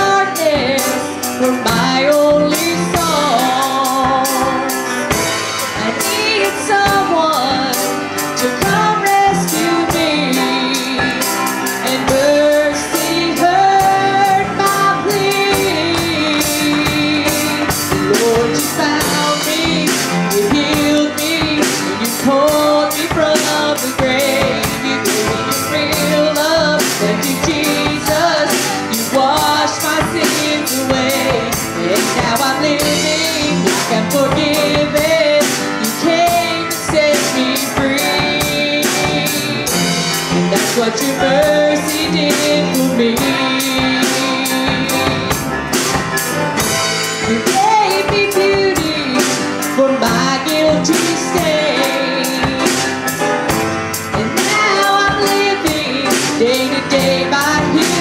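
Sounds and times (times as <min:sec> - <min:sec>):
woman singing: 0:00.0 - 0:46.0, 0:46.8 - 0:58.0
electric bass: 0:00.0 - 0:58.0
grand piano: 0:00.0 - 0:58.0.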